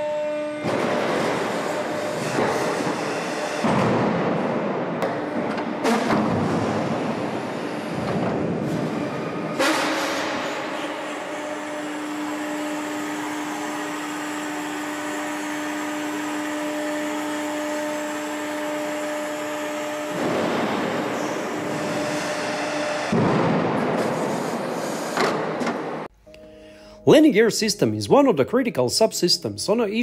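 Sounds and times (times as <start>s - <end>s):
hydraulic mechanical whir: 0.0s - 26.1s.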